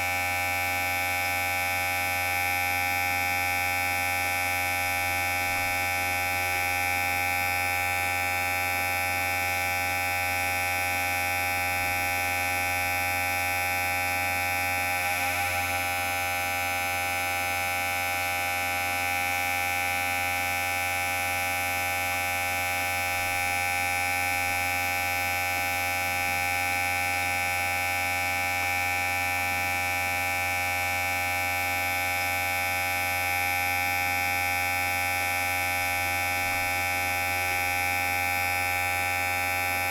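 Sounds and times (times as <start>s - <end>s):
electric hair clipper buzzing: 1.1s - 17.5s, 22.4s - 39.9s.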